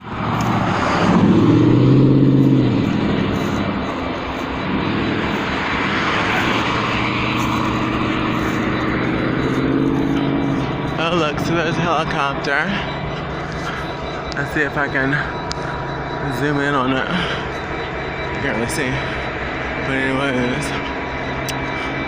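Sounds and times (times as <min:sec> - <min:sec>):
helicopter flying overhead: 0:00.0 - 0:22.0.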